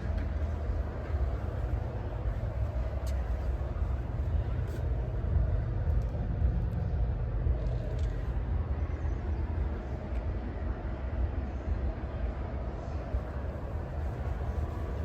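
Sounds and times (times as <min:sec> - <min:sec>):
fluttering low rumble: 0:00.0 - 0:15.0.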